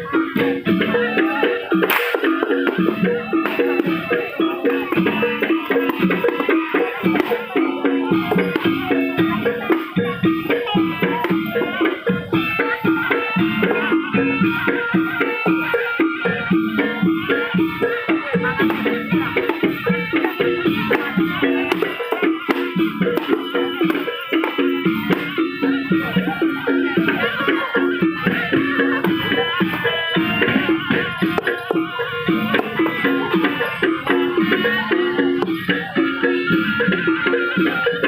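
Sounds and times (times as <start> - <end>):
gamelan percussion ensemble: 0.0 - 38.0.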